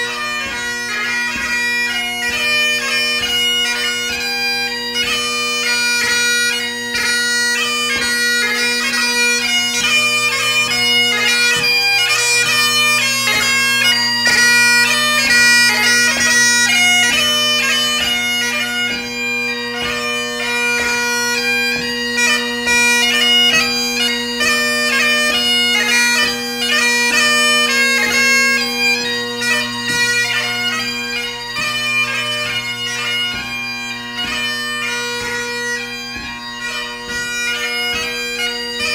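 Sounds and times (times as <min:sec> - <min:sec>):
bagpipe drones and melody: 0:00.0 - 0:38.9.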